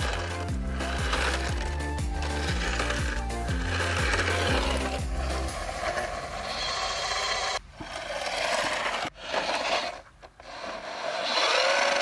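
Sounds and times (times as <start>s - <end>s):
toy car electric motor whining: 0.0s - 12.0s
wheels scraping over dirt: 0.0s - 12.0s.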